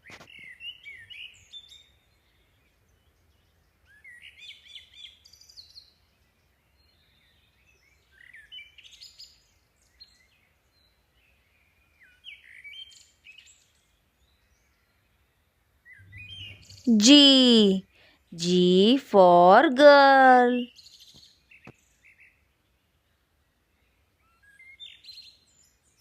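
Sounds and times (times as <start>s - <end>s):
songbirds twittering: 0.1s - 16.9s, 20.7s - 26.0s.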